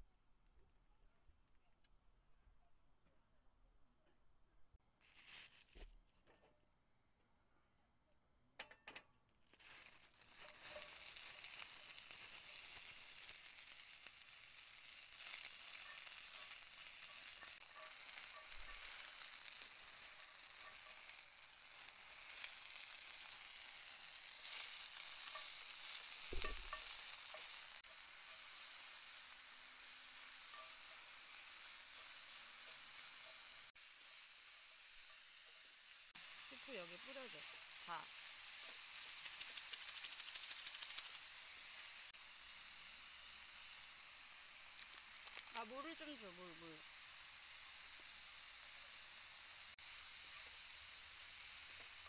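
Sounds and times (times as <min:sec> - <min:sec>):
food sizzling in a pan: 0:09.5 - 0:52.0.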